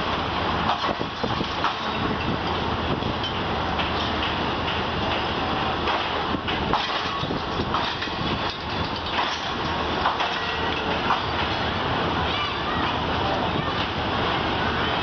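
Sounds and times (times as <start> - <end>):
wheels knocking and clacking: 0.0 - 12.4
train rumbling on rails: 0.0 - 15.0.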